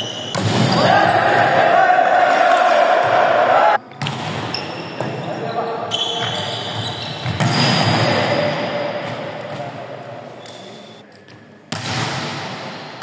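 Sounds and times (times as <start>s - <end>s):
ball and court noise: 0.0s - 13.0s.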